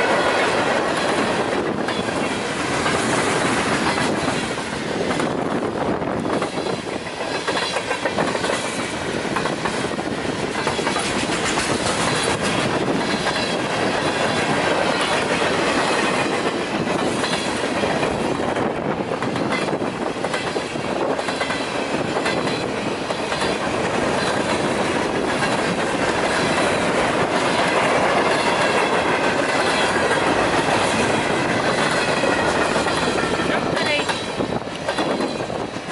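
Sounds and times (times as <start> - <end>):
freight train clattering past: 0.0 - 35.9
wheels clicking over rail joints: 6.1 - 35.9.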